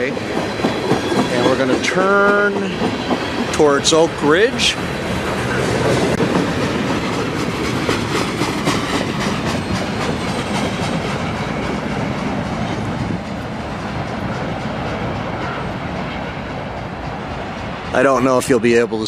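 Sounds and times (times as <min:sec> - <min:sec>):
train wheels clicking on rail: 0:00.0 - 0:18.9
train rumble: 0:00.0 - 0:19.0.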